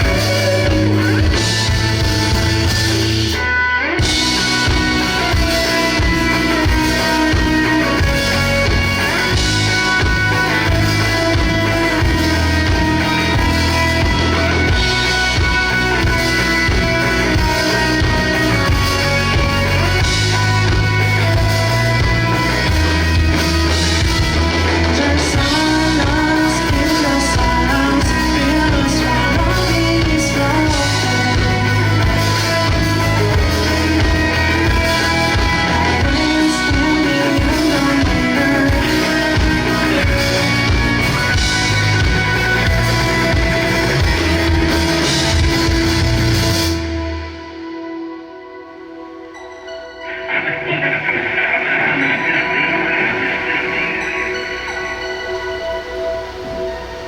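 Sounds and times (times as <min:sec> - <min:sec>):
bass guitar: 0:00.0 - 0:49.2
drums: 0:00.0 - 0:57.0
electric guitar: 0:00.0 - 0:57.0
person singing: 0:04.3 - 0:45.3, 0:49.8 - 0:57.0.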